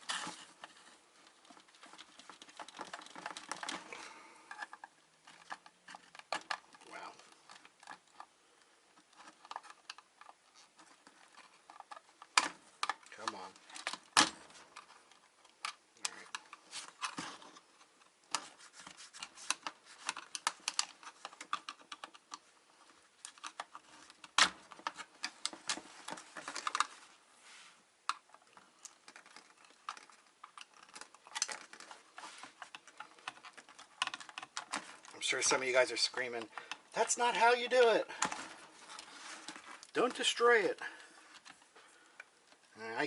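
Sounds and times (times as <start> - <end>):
plastic and metal parts clicking: 0.0 - 27.1, 28.1 - 37.2, 38.1 - 42.7.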